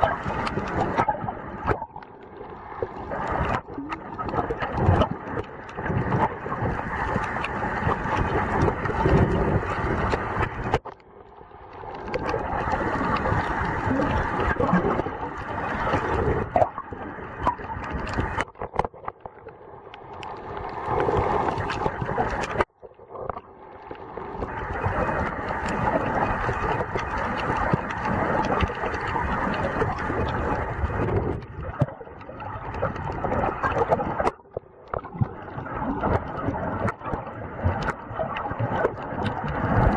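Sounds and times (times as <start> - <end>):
muffled rushing water underwater: 0.0 - 39.9.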